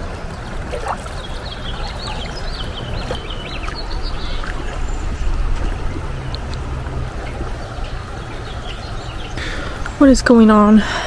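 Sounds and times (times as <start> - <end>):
songbird chirping: 0.0 - 10.9
river rushing: 0.0 - 11.0.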